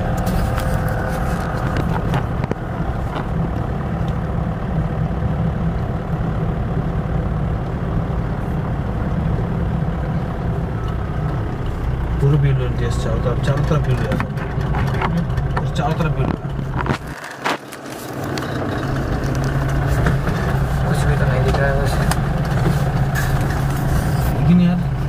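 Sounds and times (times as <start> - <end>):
car engine rumble: 0.0 - 25.0
tyres on dirt road: 0.0 - 25.0.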